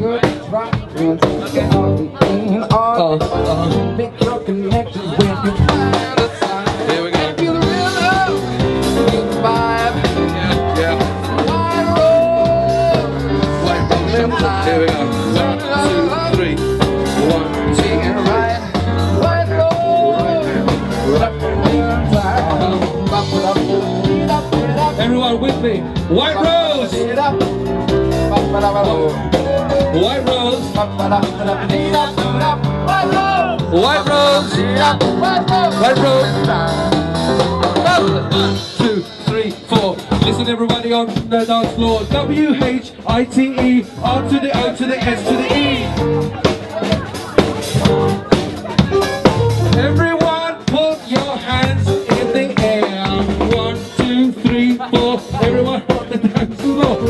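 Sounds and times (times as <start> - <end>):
song with singing and beat: 0.0 - 57.0.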